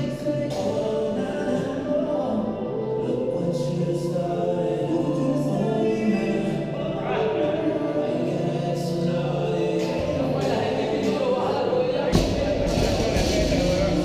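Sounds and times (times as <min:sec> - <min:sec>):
choral music: 0:00.0 - 0:14.0.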